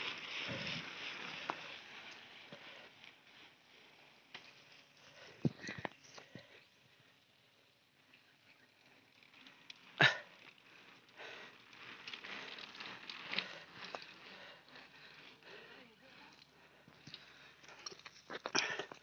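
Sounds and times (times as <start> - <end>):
bicycle tyres hissing: 0.0 - 19.0
rustles: 0.0 - 19.0.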